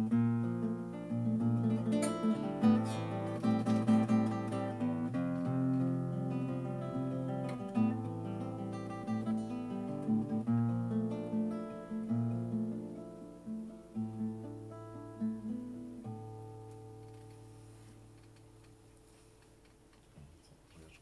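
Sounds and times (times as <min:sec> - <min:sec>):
solo classical guitar: 0:00.0 - 0:19.9.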